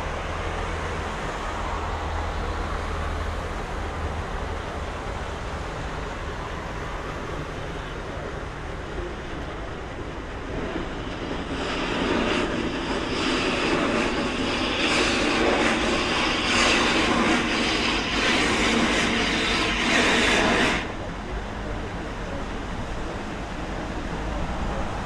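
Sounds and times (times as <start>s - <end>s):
passing traffic: 0.0s - 25.0s.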